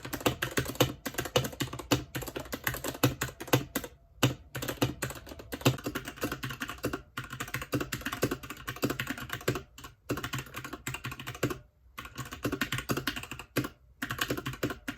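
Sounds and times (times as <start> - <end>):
fast typing on keyboard: 0.0 - 14.9.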